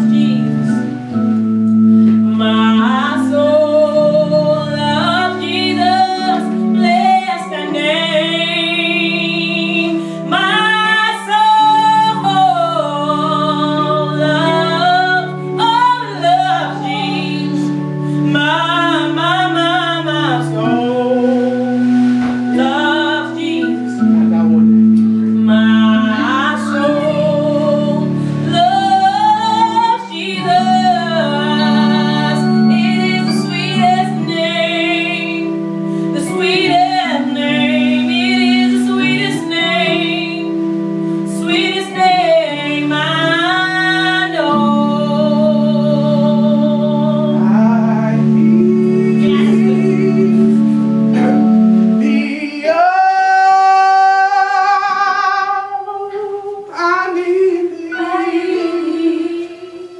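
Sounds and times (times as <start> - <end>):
woman singing gospel: 0.0 - 24.2, 25.0 - 59.9
held keyboard chords: 0.0 - 59.9.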